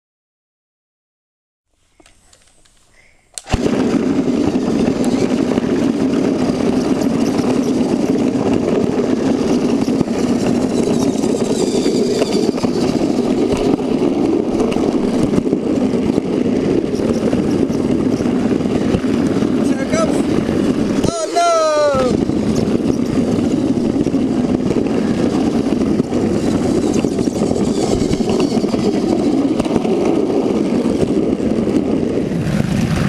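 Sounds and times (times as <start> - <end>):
toy train motor whirring: 1.8 - 31.2.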